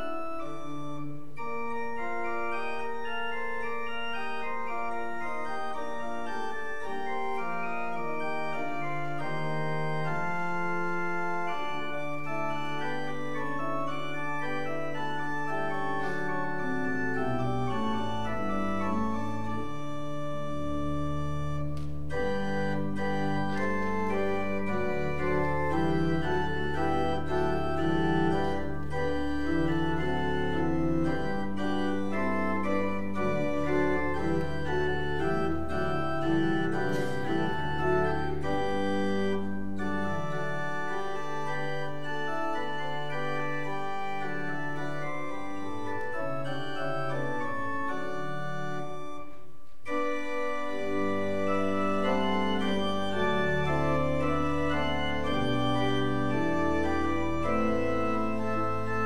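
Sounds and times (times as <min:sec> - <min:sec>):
church organ chords: 0:00.0 - 0:59.0
low organ pedal notes: 0:00.0 - 0:59.0.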